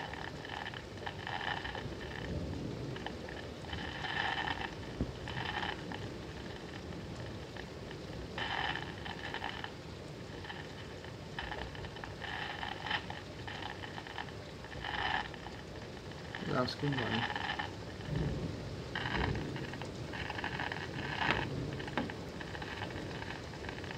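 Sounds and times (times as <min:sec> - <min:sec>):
radio static crackling: 0:00.0 - 0:23.9
steady rain: 0:00.0 - 0:23.9.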